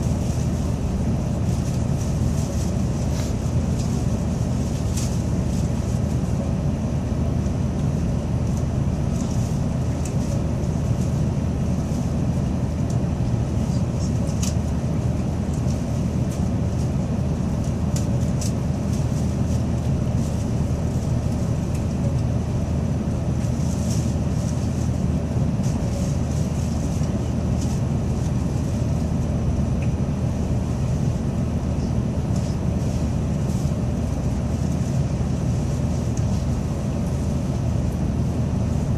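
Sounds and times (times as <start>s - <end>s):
train cabin rumble: 0.0s - 38.9s.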